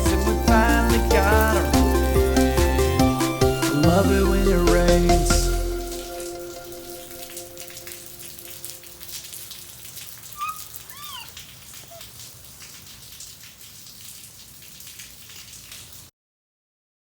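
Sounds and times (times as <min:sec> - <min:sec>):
rain pattering: 0:00.0 - 0:16.1.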